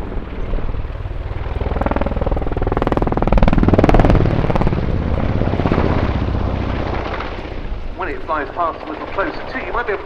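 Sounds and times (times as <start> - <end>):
helicopter rotor beating: 0.0 - 10.0
helicopter whine: 0.0 - 10.0.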